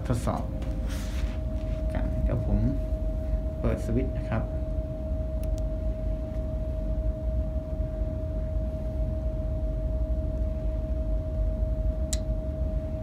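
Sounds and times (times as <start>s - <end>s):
mid-pitched whine: 0.0s - 13.0s.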